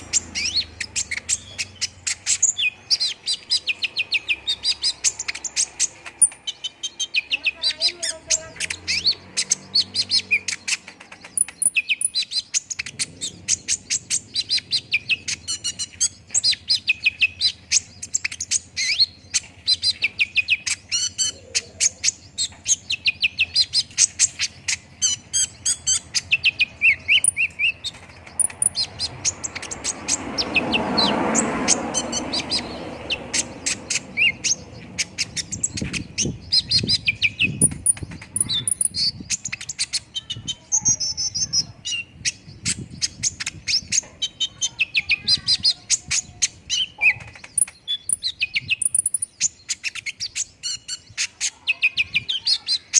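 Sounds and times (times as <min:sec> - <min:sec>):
sunbird chirps and trills: 0:00.0 - 0:52.9.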